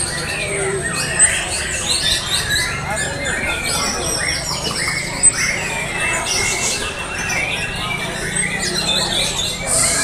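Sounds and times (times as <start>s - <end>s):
birds singing whistled trills: 0.0s - 10.0s.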